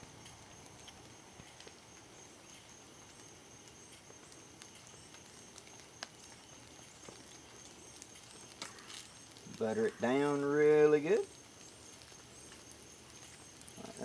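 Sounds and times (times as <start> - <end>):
low hiss: 0.0 - 14.0
small high chirps: 0.2 - 14.0.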